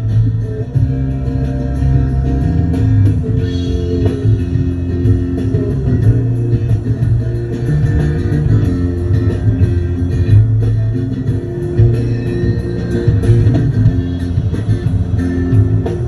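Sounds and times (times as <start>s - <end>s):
electric guitar sustained notes: 0.0s - 16.0s.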